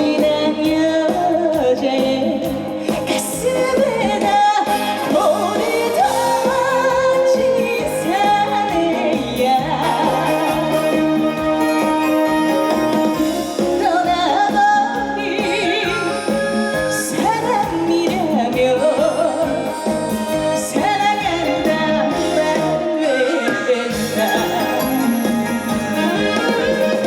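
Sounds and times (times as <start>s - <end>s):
band backing track with beat: 0.0s - 27.0s
woman singing with vibrato: 0.0s - 27.0s.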